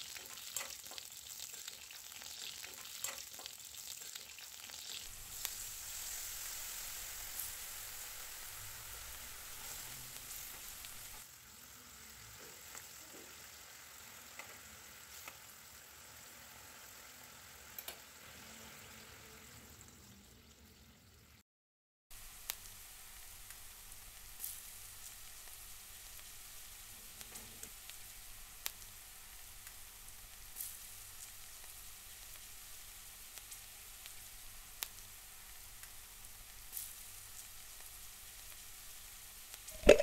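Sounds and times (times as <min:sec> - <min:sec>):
vegetables sizzling in oil: 0:00.0 - 0:21.4, 0:22.1 - 0:40.0.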